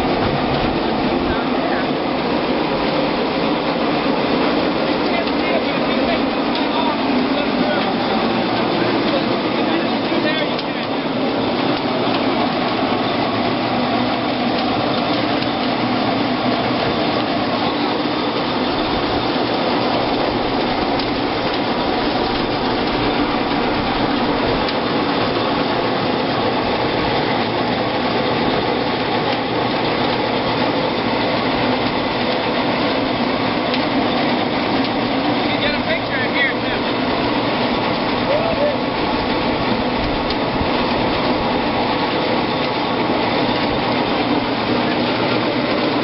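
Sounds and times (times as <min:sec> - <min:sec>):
grape crusher running: 0:00.0 - 0:46.0.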